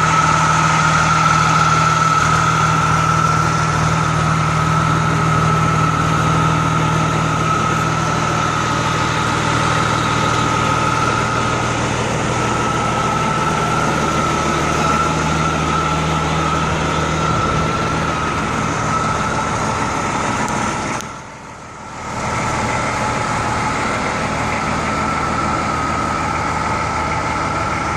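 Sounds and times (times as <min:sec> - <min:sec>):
high turbo whistle: 0:00.0 - 0:21.3, 0:22.0 - 0:27.9
truck engine idling: 0:00.0 - 0:27.9.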